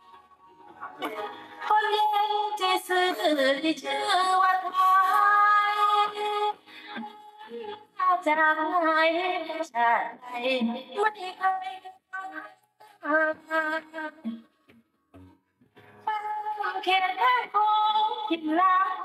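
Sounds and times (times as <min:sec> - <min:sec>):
woman singing into a microphone: 0:00.8 - 0:14.4, 0:16.0 - 0:19.0.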